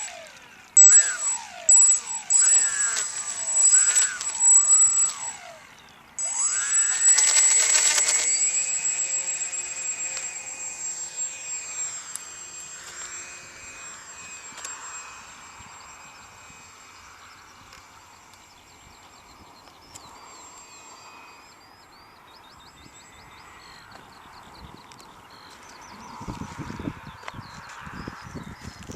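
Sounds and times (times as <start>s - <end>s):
thin steady high tone: 0.0s - 26.2s
electric motors whining: 0.0s - 28.9s.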